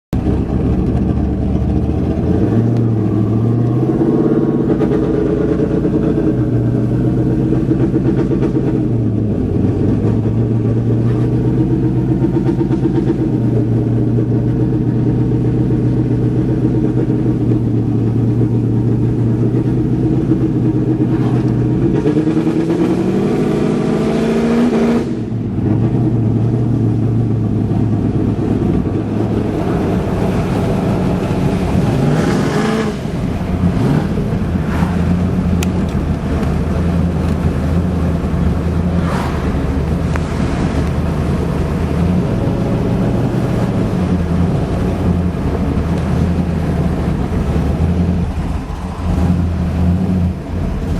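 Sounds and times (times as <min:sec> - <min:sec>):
vehicle engine running: 0:00.1 - 0:50.9.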